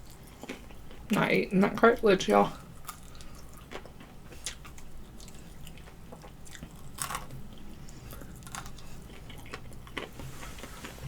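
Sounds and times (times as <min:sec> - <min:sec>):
person chewing chicken wings: 0:00.0 - 0:01.0, 0:02.7 - 0:11.0.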